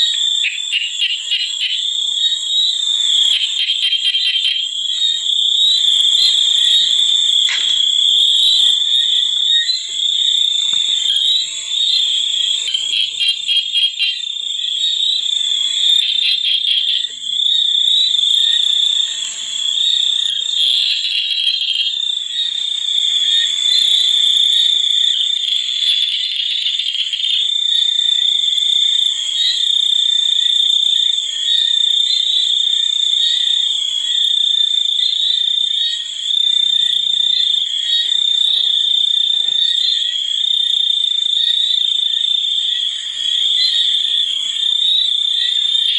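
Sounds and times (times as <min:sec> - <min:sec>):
insects and frogs calling: 0:00.0 - 0:45.9.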